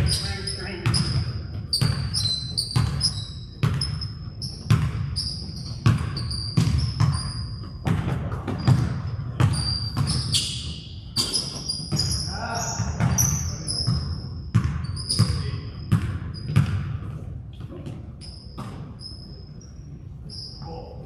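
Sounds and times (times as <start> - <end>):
shoe squeaks: 0.0 - 7.9, 8.5 - 16.7, 18.1 - 21.0
basketball bouncing on wood floor: 0.0 - 18.0.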